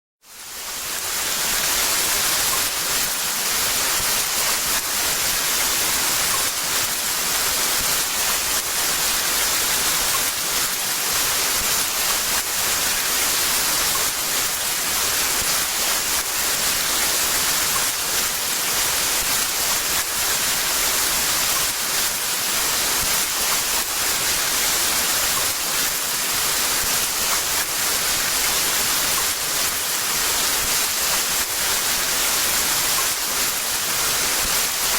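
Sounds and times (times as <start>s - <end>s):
heavy rain pouring: 0.4s - 34.9s.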